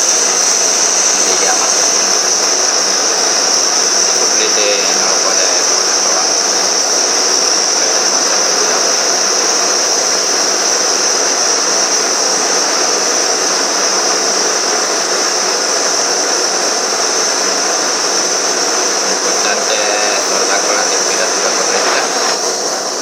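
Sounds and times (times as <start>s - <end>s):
blowtorch hissing: 0.0s - 23.0s.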